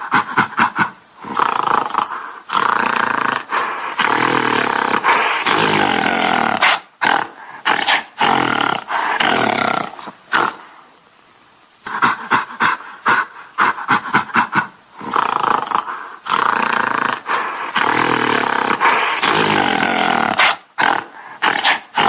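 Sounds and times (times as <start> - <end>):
gorilla grunts: 0.0 - 10.7, 11.8 - 22.0
gorilla long rough calls: 0.0 - 10.8, 11.8 - 22.0.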